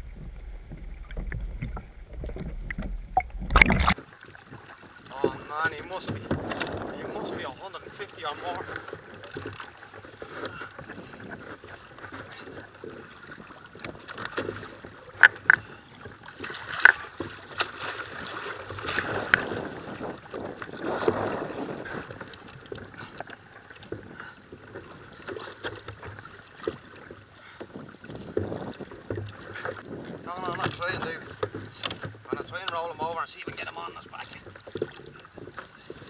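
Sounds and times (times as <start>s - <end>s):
water lapping against a plastic hull: 0.0s - 36.0s.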